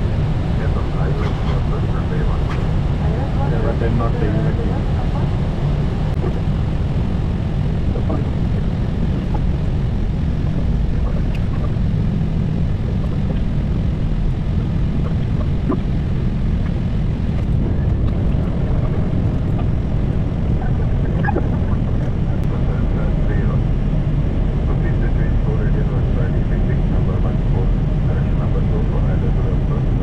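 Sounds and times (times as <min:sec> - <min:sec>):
airflow and engine noise: 0:00.0 - 0:30.0.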